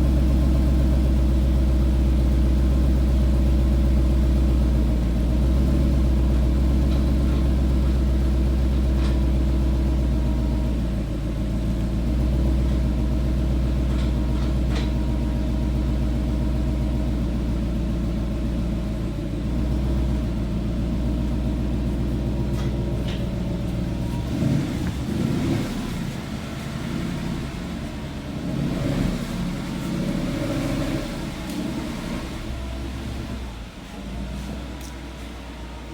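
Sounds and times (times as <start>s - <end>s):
car engine idling rumble: 0.0s - 35.9s.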